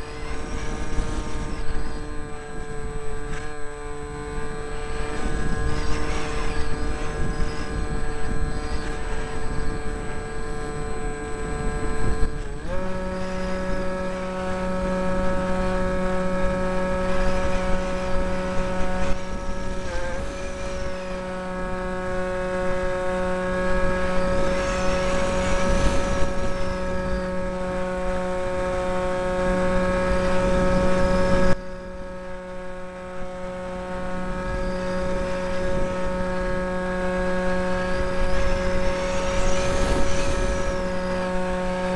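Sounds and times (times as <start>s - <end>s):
electric propeller motor whining: 0.0s - 41.9s.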